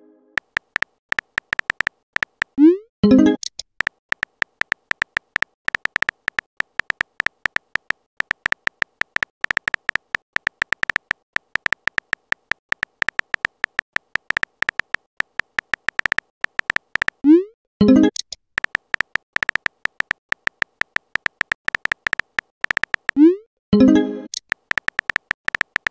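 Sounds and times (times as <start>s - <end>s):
phone keyboard key clicks: 0.4s - 2.6s, 3.4s - 17.3s, 18.1s - 23.2s, 24.3s - 25.9s.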